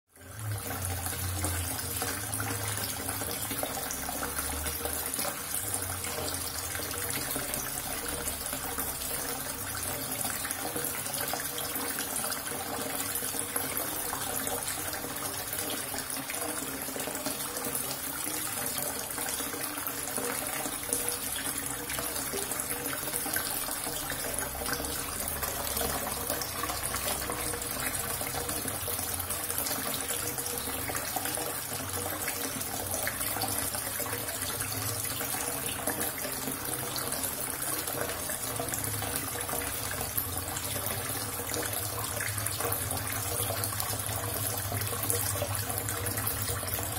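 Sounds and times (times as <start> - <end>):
water running from tap: 0.1 - 46.9.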